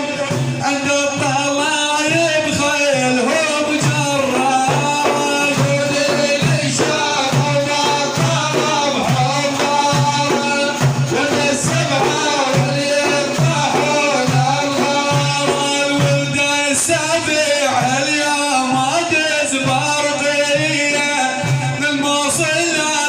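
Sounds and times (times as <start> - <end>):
person singing: 0.0 - 23.0
steady drum beat: 0.0 - 23.0.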